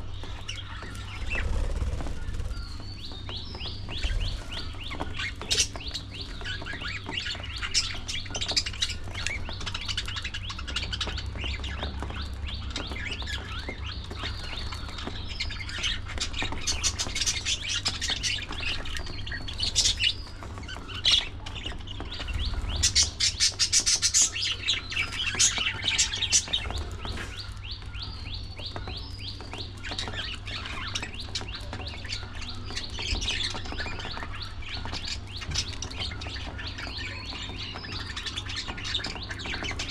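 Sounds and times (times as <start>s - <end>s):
budgerigars chattering: 0.1s - 39.9s.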